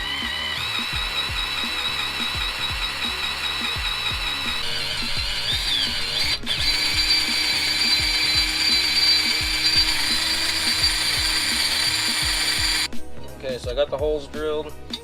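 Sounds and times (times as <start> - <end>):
power drill drilling: 0.0 - 12.9
background music with beat: 0.0 - 15.0.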